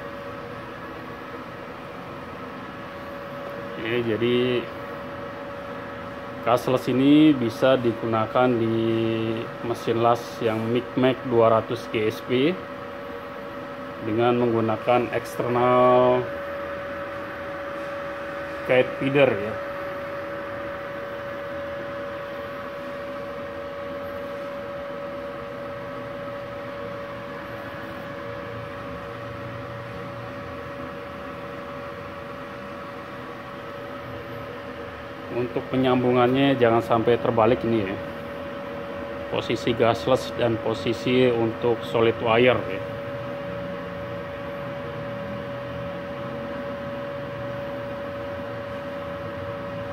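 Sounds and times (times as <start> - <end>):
constant high whine: 0.0 - 49.9
welding machine humming: 0.0 - 49.9.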